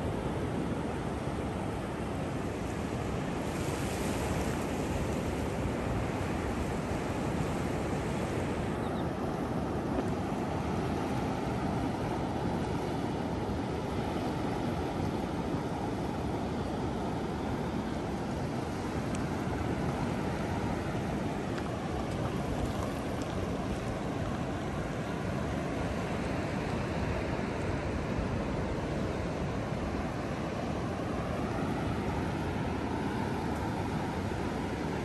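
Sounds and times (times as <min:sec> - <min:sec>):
ocean surf breaking: 0:02.0 - 0:35.0.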